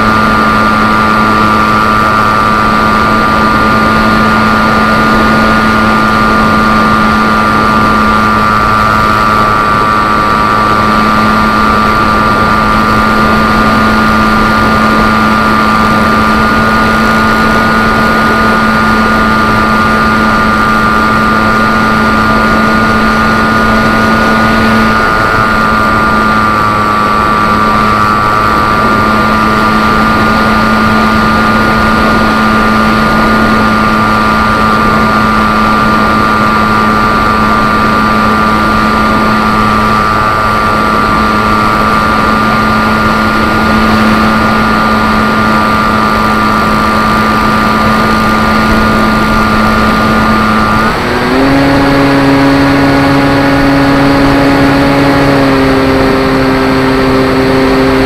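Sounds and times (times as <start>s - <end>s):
electric motor propeller whine: 0.0s - 58.0s
rushing wind: 0.0s - 58.0s.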